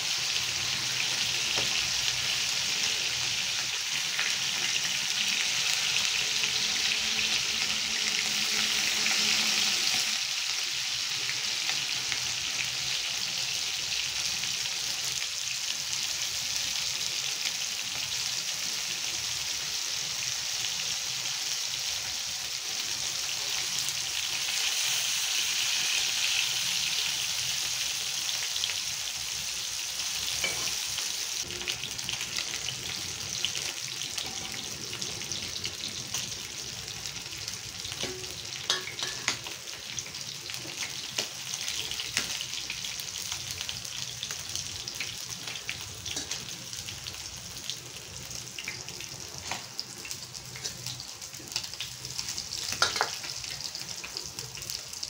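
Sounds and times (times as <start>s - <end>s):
fish sizzling in oil: 0.0s - 55.0s.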